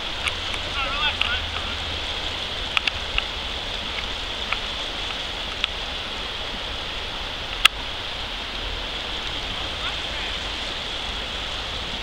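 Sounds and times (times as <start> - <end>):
river rapids rushing over rocks: 0.0 - 12.0.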